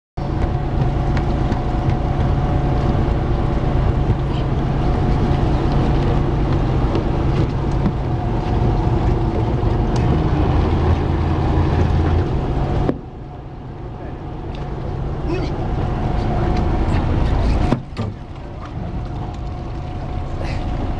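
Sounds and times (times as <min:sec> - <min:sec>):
boat engine humming: 0:00.2 - 0:20.9.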